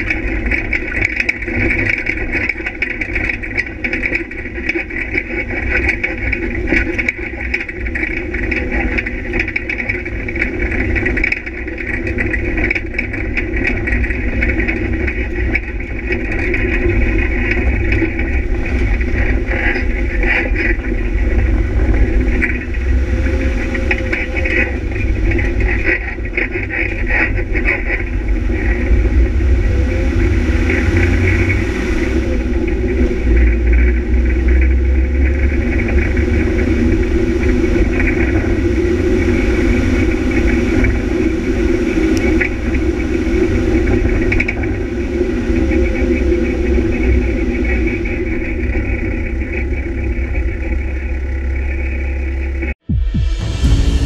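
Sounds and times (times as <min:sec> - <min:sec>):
engine running hard: 0:00.0 - 0:54.0
vehicle and gravel rattling: 0:00.0 - 0:54.0.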